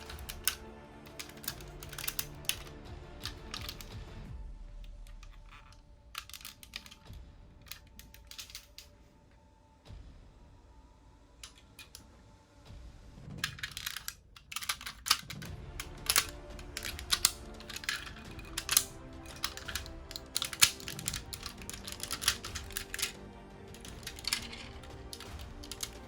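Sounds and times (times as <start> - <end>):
plastic toy parts clicking: 0.0 - 4.0, 4.9 - 9.0, 11.4 - 12.1, 13.4 - 26.0
faint background music: 0.0 - 26.0.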